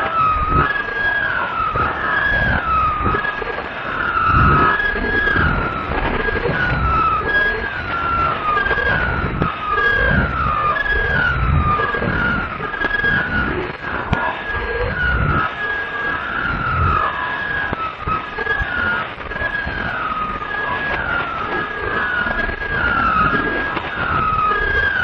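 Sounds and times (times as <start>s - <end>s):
high downward gliding tones: 0.0s - 25.0s.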